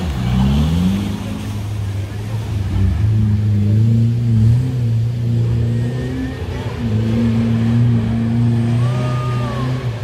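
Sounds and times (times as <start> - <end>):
off-road engine revving: 0.0 - 10.0.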